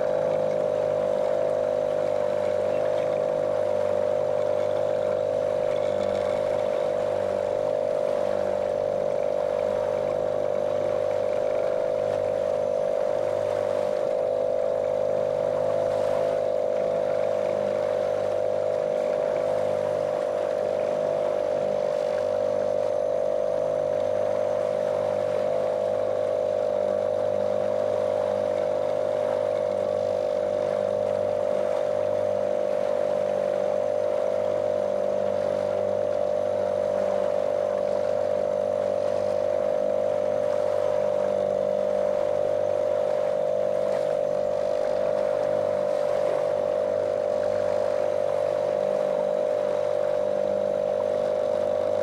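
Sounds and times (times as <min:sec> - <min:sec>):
outboard motor droning: 0:00.0 - 0:52.0
water hissing along hull: 0:00.0 - 0:52.0.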